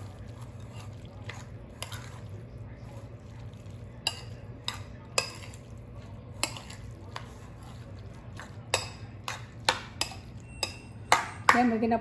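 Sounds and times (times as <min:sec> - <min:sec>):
utensil clinking against bowl: 0:00.0 - 0:11.8.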